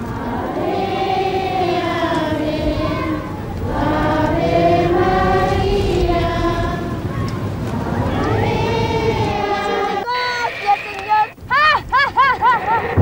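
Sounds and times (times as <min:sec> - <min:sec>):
children's choir singing: 0:00.0 - 0:11.4.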